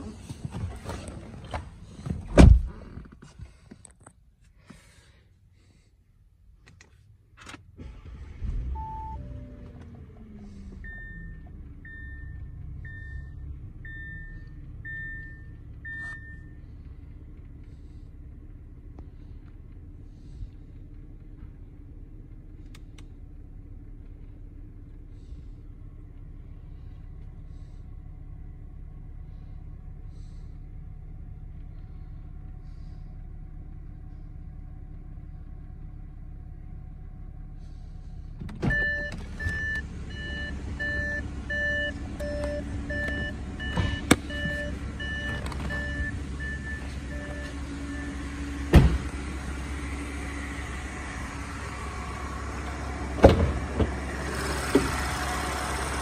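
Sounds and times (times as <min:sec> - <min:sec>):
car engine starting and idling: 0:00.0 - 0:56.0.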